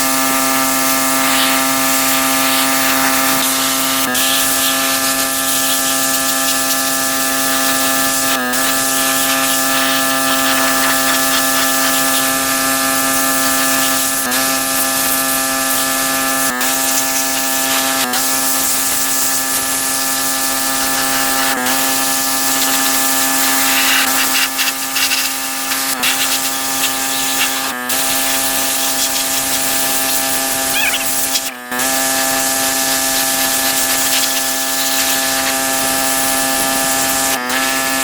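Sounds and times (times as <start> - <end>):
pressure washer humming: 0.0 - 38.0
water jet spraying car panels: 1.0 - 38.0.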